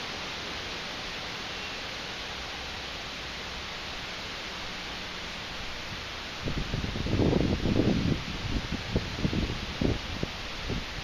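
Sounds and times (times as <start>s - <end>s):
storm wind rushing through leaves: 0.0s - 11.0s.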